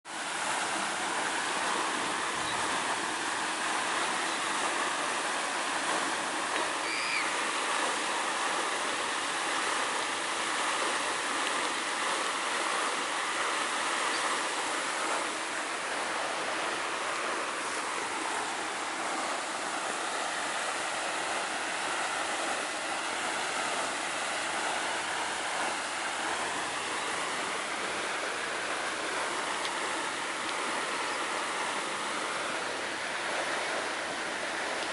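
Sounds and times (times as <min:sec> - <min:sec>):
water rushing: 0:00.1 - 0:34.9.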